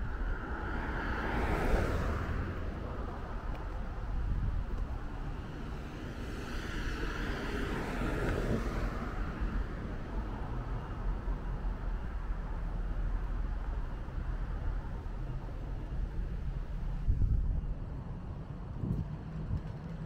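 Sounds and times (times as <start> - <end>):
car passing: 0.0 - 18.2
low rumble of road traffic: 0.0 - 20.0.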